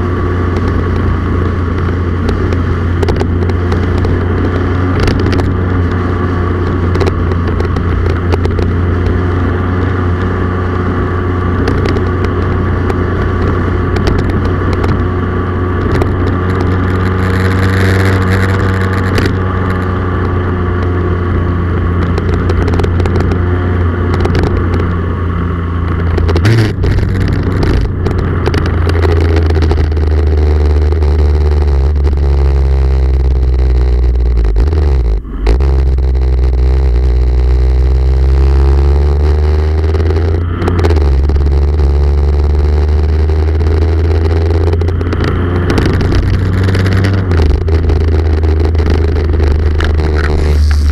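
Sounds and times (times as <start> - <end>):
road and wind noise: 0.0 - 50.9
vehicle engine cruising: 0.0 - 50.9.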